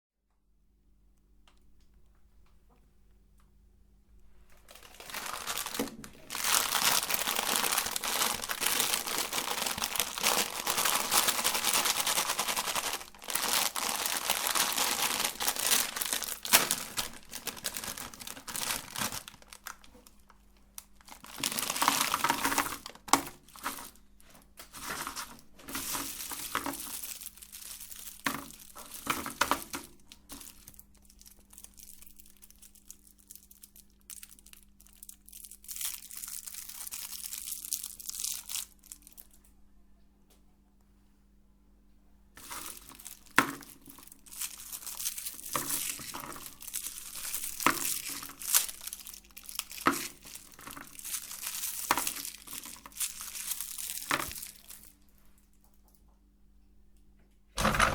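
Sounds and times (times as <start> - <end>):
candy crunching in grinder: 4.5 - 39.5, 42.4 - 55.1.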